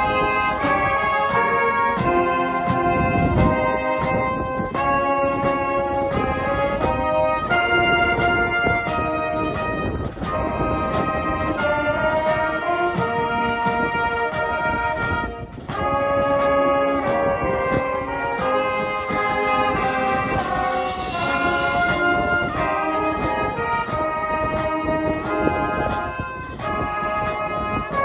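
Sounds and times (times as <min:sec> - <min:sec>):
brass band playing: 0:00.0 - 0:28.0
drum kit beat: 0:00.0 - 0:28.0.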